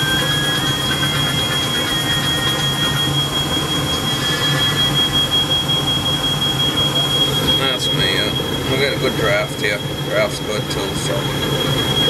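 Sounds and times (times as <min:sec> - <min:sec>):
furnace running: 0:00.0 - 0:12.0
smoke alarm high-pitched tone: 0:00.0 - 0:12.0.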